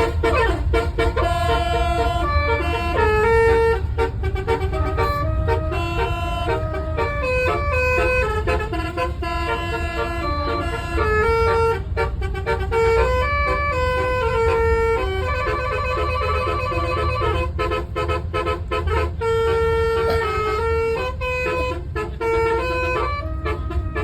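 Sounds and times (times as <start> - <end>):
low engine rumble: 0.0 - 24.0
multi-tone horn playing a tune: 0.0 - 24.0.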